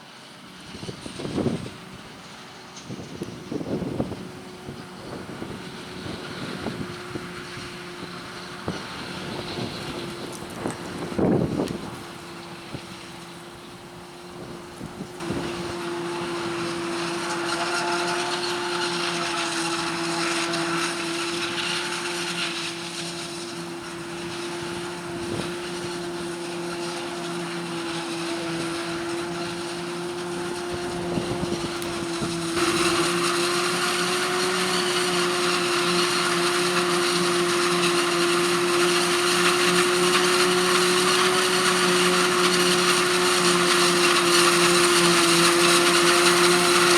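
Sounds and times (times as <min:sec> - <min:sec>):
harvester machine whine: 0:00.0 - 0:46.9.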